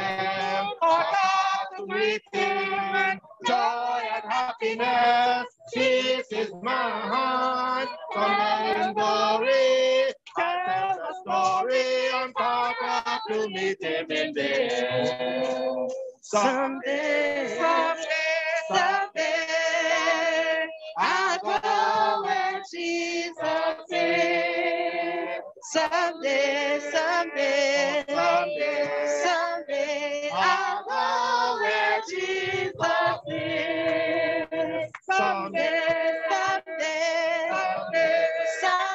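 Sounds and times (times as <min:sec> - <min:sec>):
group singing a hymn: 0:00.0 - 0:38.9.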